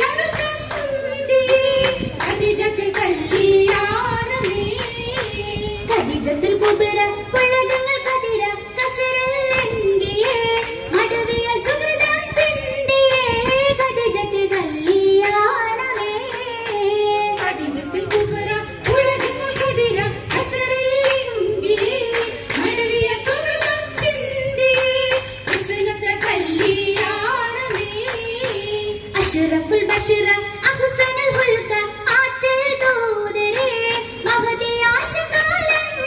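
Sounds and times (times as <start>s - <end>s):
rhythmic hand-clapping: 0.0s - 36.0s
women singing: 0.0s - 36.0s.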